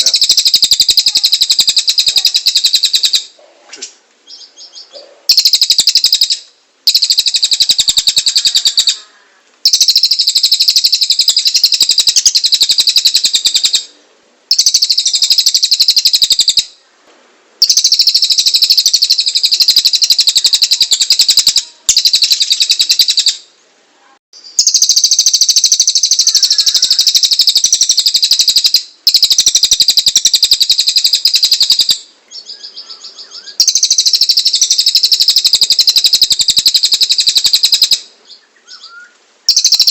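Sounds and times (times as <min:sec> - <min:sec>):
songbird singing rapid high notes: 0:00.0 - 0:03.4, 0:04.3 - 0:09.0, 0:09.6 - 0:13.9, 0:14.5 - 0:16.8, 0:17.6 - 0:23.4, 0:24.4 - 0:39.9.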